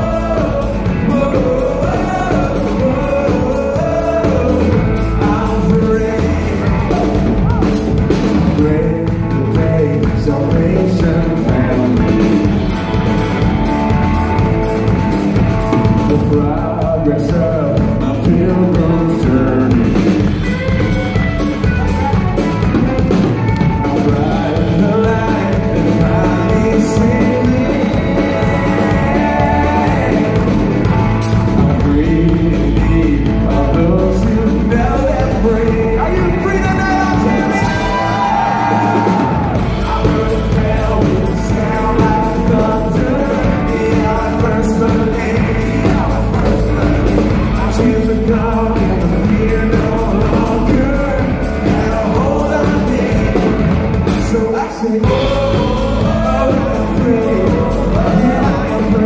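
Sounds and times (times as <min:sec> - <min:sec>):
live band music: 0:00.0 - 0:59.0
man singing: 0:00.0 - 0:59.0.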